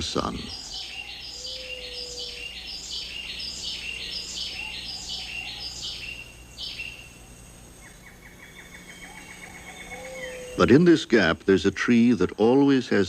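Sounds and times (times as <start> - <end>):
bird calling in falling phrases: 0.0 - 13.0.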